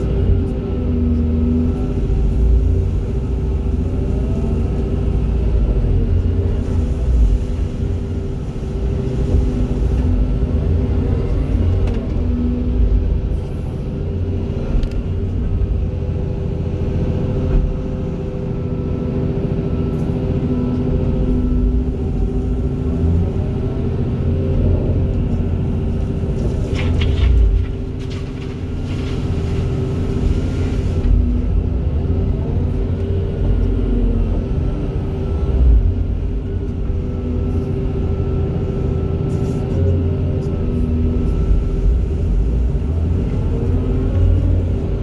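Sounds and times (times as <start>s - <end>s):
excavator diesel engines rumbling: 0.0s - 45.0s.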